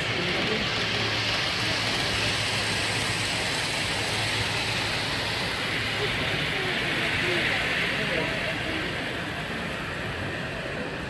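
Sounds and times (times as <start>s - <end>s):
hum of busy hall: 0.0s - 11.0s
model train running on track: 0.0s - 11.0s.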